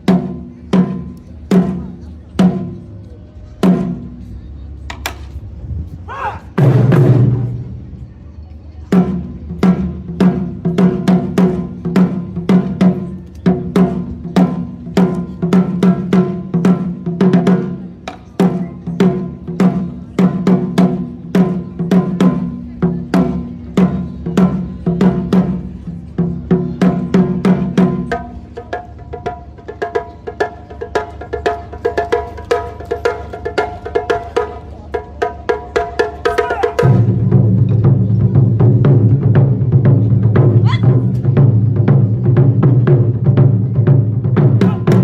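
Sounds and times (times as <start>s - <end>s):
taiko drums: 0.0s - 2.9s, 3.6s - 4.2s, 6.1s - 7.8s, 8.9s - 45.0s.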